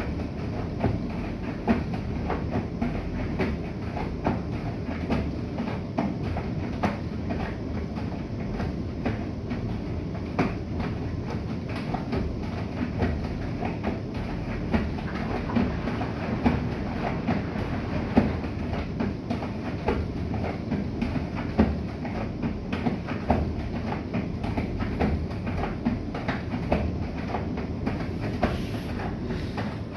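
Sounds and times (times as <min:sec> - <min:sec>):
washing machine knocks and clicks: 0:00.0 - 0:29.9
washing machine rumbling: 0:00.0 - 0:29.9.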